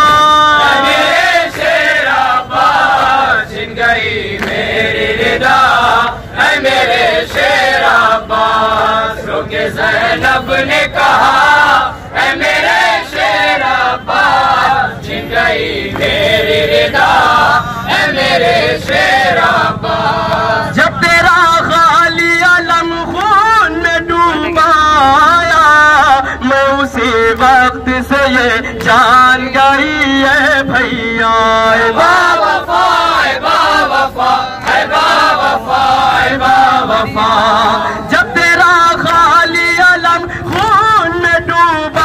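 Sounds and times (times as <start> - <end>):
men chanting lament through loudspeakers: 0.0 - 42.0.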